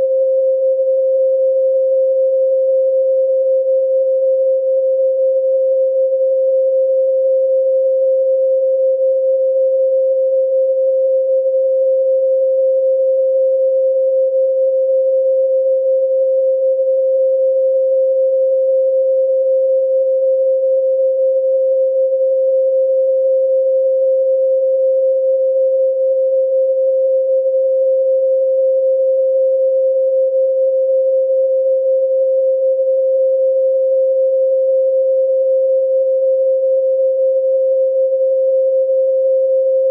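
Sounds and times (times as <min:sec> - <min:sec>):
pure sine tone: 0:00.0 - 0:39.9.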